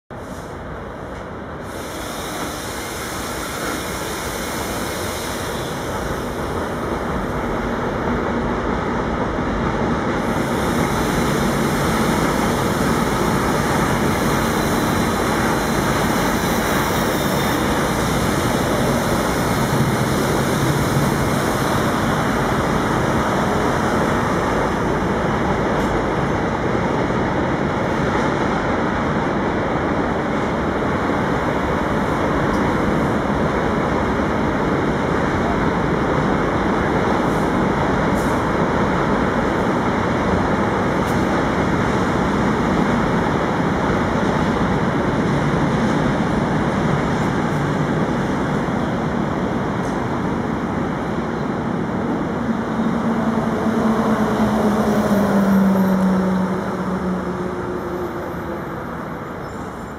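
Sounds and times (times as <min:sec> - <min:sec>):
train wheels rumbling on bridge: 0:00.5 - 0:59.9.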